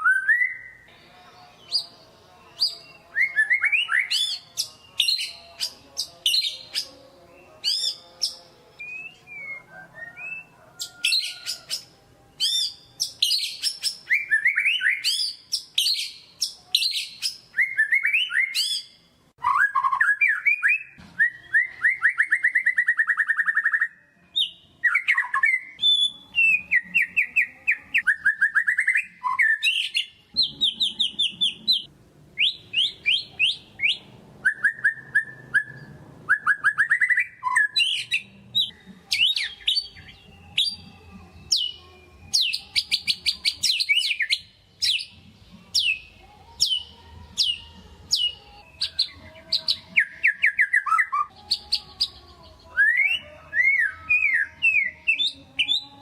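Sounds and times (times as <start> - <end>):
songbird singing chirps and trills: 0.0 - 56.0.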